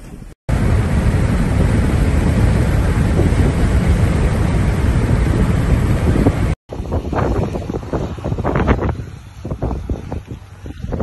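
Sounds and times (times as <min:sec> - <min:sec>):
wind and road noise in car: 0:00.0 - 0:11.0.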